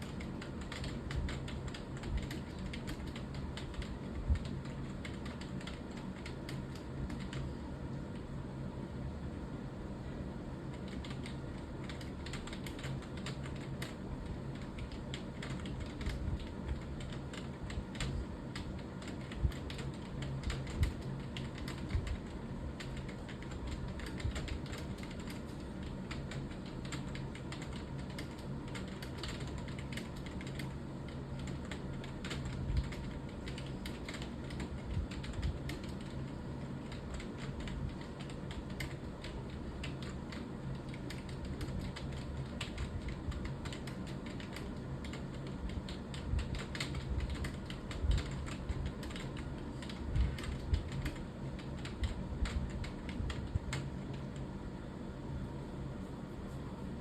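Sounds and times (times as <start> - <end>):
fast typing on keyboard: 0.0 - 7.6, 10.7 - 54.5.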